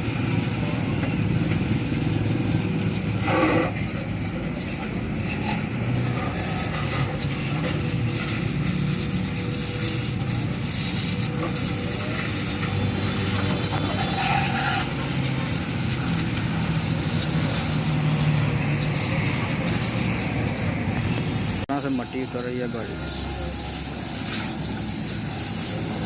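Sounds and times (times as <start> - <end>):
pressure washer spraying water: 0.0 - 26.0.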